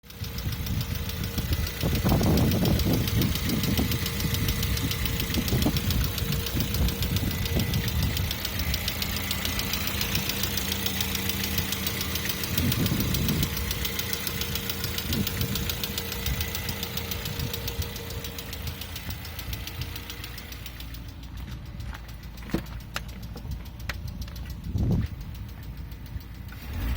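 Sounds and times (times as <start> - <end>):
car engine running: 0.0 - 26.9
rapid even engine knock: 0.0 - 26.9.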